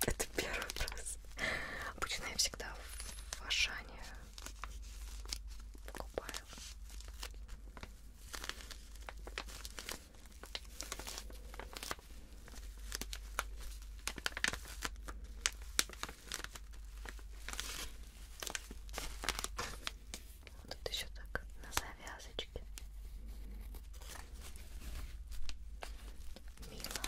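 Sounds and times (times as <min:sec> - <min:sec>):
plastic wrapping crinkling: 0:00.0 - 0:27.0.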